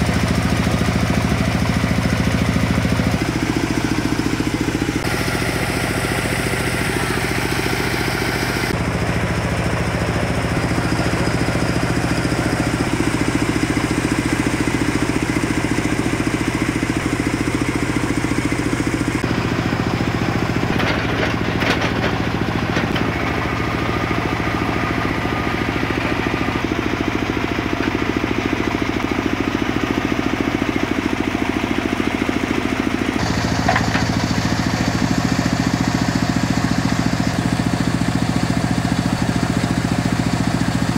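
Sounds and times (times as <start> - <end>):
drilling rig engine running: 0.0 - 40.9.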